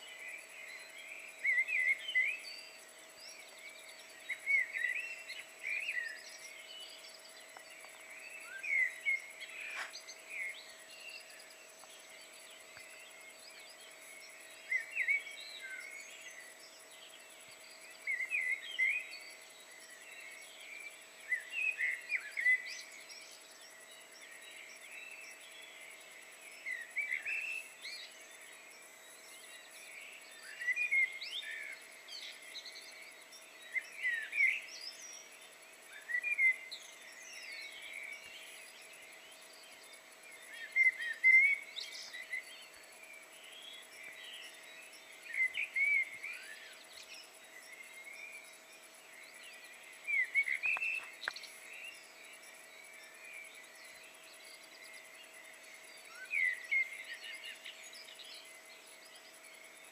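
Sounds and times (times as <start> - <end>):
faint background hiss: 0.0 - 59.9
bird singing warbled phrases: 0.1 - 28.4, 29.1 - 48.6, 49.2 - 59.6.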